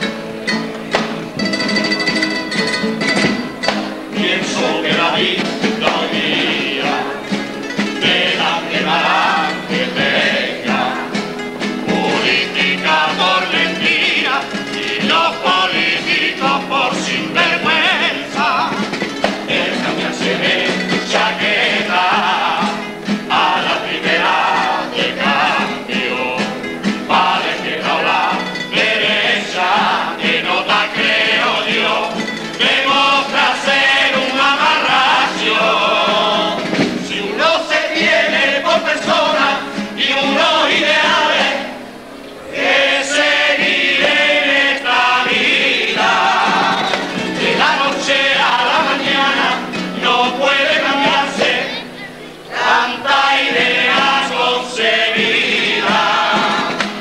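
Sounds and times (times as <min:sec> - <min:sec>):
male choir singing in harmony: 0:03.3 - 0:57.0.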